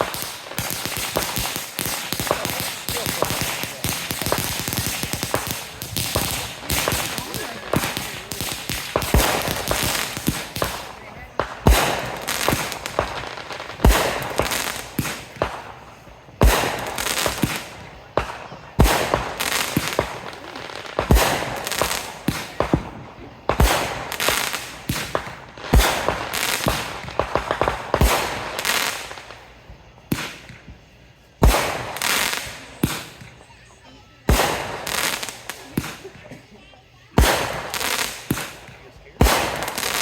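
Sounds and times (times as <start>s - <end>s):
firework thumps: 0.0s - 33.6s
crackling firework pops: 0.0s - 40.0s.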